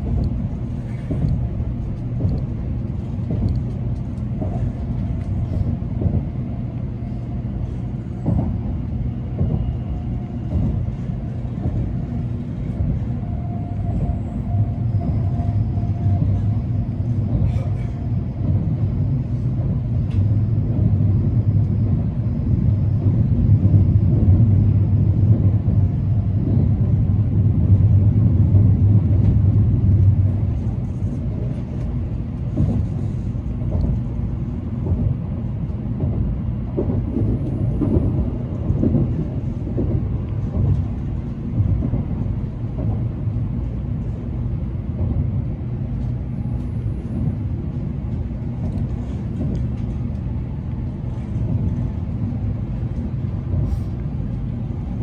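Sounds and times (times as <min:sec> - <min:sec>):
train rumble inside cabin: 0:00.0 - 0:55.0.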